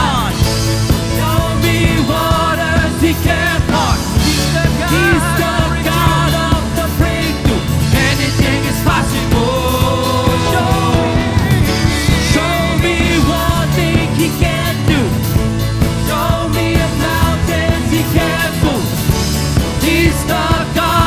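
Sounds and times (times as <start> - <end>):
people singing: 0.0 - 21.0
rock band with drums and bass: 0.0 - 21.0.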